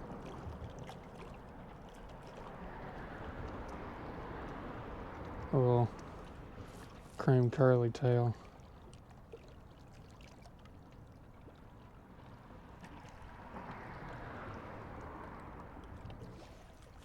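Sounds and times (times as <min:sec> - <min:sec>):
water lapping against bank: 0:00.0 - 0:17.0.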